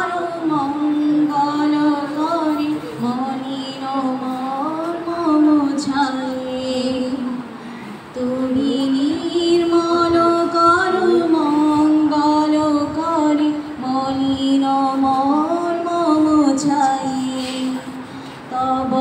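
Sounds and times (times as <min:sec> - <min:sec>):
girl singing into a microphone: 0:00.0 - 0:19.0.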